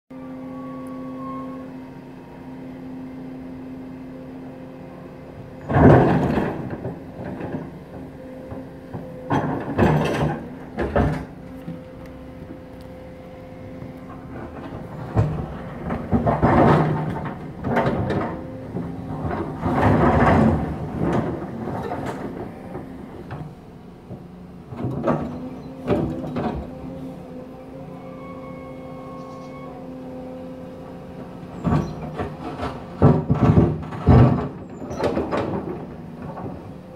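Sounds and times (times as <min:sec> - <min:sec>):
excavator engine running: 0:00.1 - 0:36.9.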